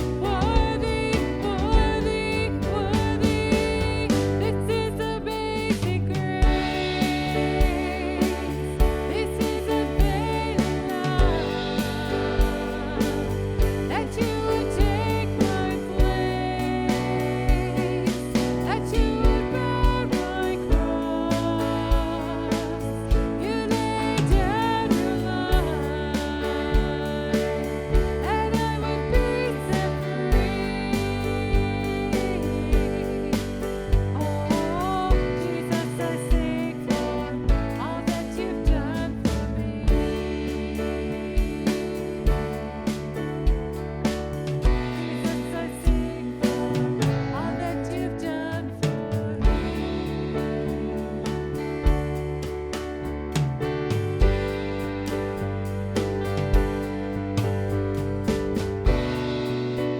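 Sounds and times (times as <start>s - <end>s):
steady drum beat: 0.0s - 59.9s
worship band music: 0.0s - 59.9s.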